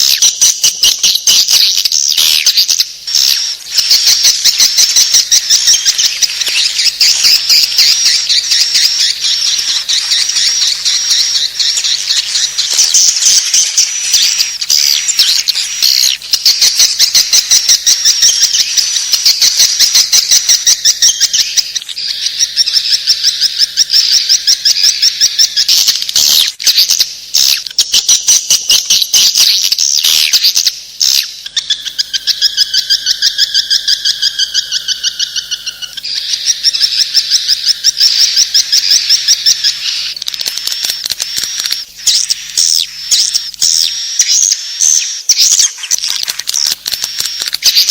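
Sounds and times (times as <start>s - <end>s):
faint steady hum: 0.0s - 47.9s
swiftlets twittering: 0.0s - 47.9s.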